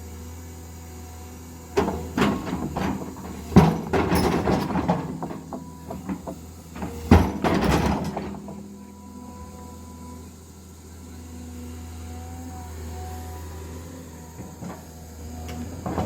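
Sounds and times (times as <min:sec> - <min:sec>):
low engine hum: 0:01.3 - 0:16.0.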